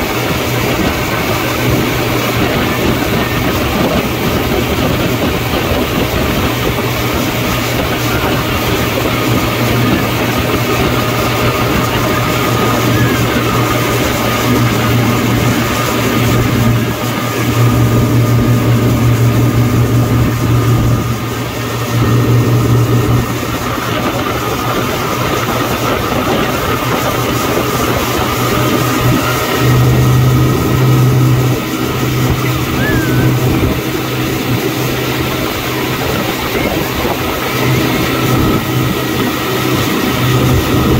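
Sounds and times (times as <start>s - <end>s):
motorboat engine running: 0.0s - 40.9s
rushing water of wake: 0.0s - 40.9s.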